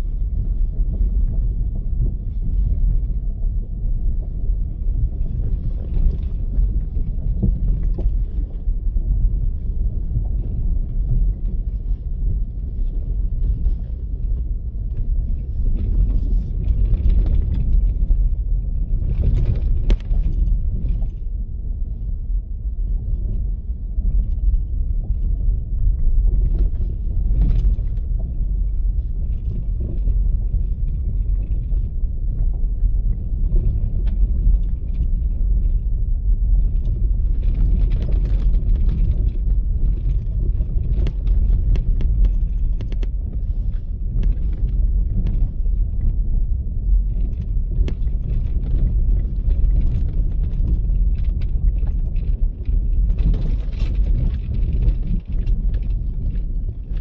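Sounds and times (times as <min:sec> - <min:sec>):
vehicle driving on dirt road: 0:00.0 - 0:57.0.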